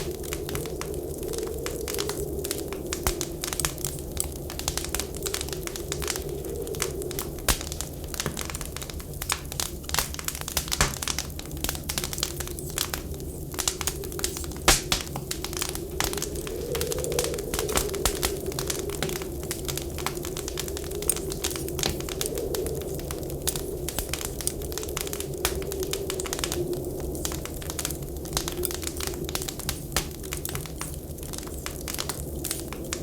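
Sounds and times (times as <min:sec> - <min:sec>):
wind whistling: 0:00.0 - 0:33.0
wood fire crackling and popping: 0:00.0 - 0:33.0.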